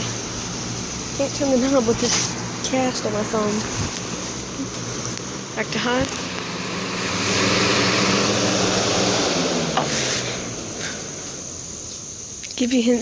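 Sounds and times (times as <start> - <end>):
box fan running: 0.0 - 13.0.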